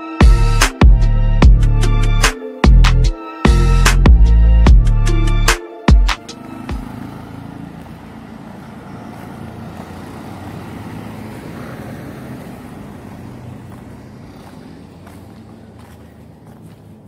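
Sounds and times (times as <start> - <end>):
street traffic noise: 0.0 - 17.0
vehicle engine drone: 2.9 - 17.0.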